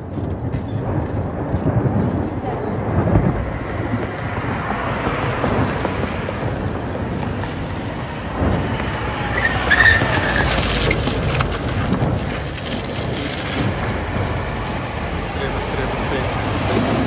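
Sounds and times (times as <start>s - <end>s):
traffic passing: 0.0s - 17.0s
wind buffeting microphone: 0.0s - 17.0s.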